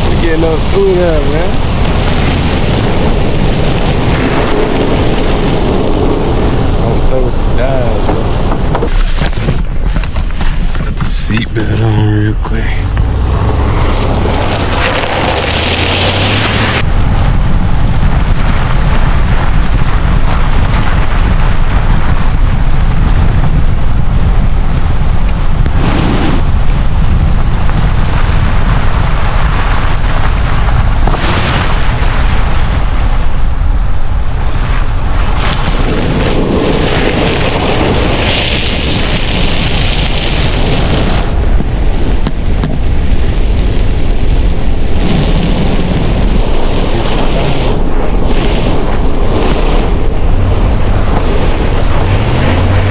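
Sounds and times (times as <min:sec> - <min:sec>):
truck driving through snow: 0:00.0 - 0:10.9, 0:11.6 - 0:52.9
heavy low rumble: 0:00.0 - 0:52.9
wind buffeting microphone: 0:00.0 - 0:52.9.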